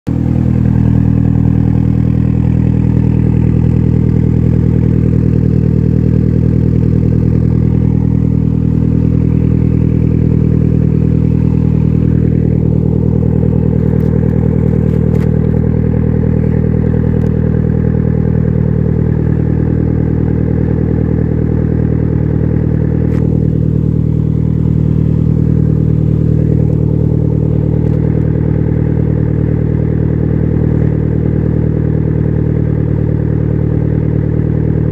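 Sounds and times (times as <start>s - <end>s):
engine idling through muffler: 0.1s - 34.9s.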